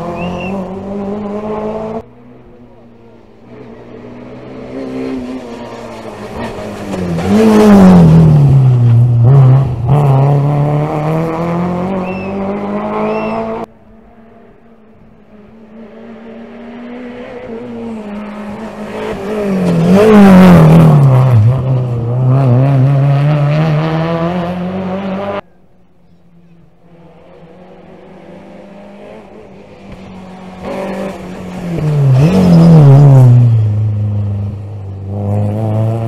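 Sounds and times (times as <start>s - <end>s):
rally cars passing at speed: 0.0s - 36.0s.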